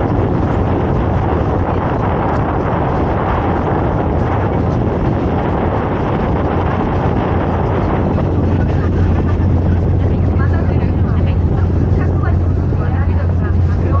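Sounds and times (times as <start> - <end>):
boat engine droning: 0.0 - 14.0
wind on microphone: 0.0 - 14.0.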